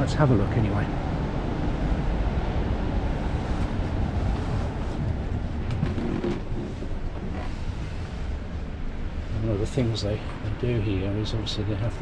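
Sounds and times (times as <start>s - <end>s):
low rumble of exhibition hall: 0.0s - 12.0s.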